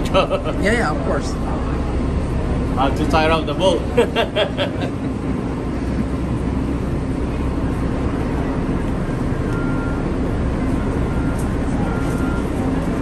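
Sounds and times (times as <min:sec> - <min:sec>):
faint constant hum: 0:00.0 - 0:13.0
ferry engines rumbling: 0:00.0 - 0:13.0.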